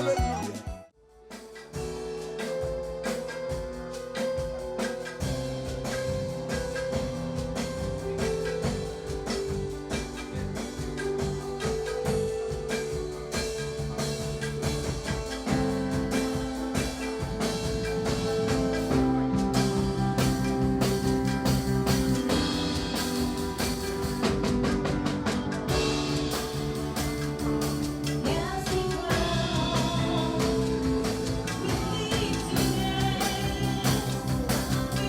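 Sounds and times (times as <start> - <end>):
bass: 0.0 - 35.0
drum kit beat: 0.0 - 35.0
held keyboard notes: 0.0 - 35.0.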